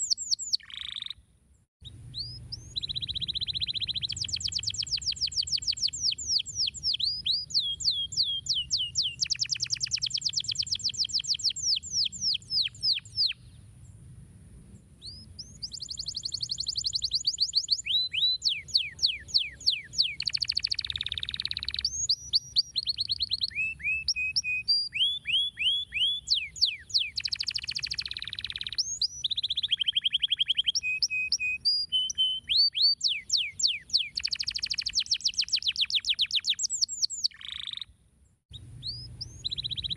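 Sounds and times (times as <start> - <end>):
canary singing trills: 0.0 - 1.2, 1.8 - 13.6, 15.0 - 37.9, 38.5 - 39.9.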